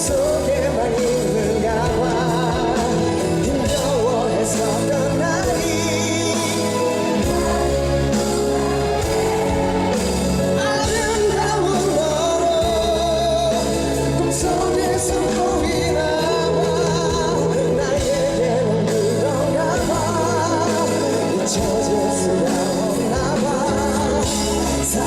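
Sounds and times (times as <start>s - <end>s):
live band playing rock ballad: 0.0s - 25.0s
person singing with vibrato: 0.0s - 25.0s.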